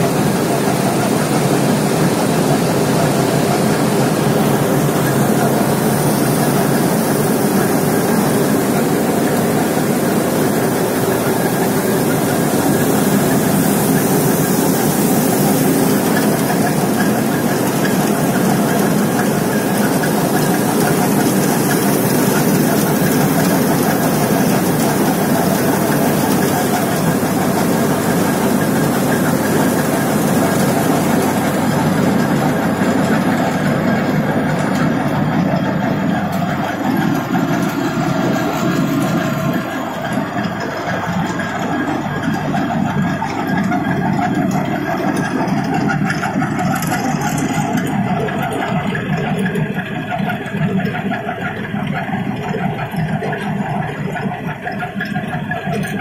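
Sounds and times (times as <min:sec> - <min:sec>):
processing plant machinery din: 0:00.0 - 0:56.0.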